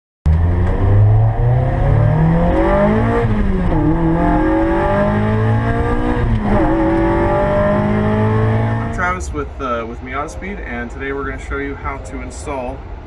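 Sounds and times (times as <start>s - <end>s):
car engine accelerating: 0.3s - 13.0s.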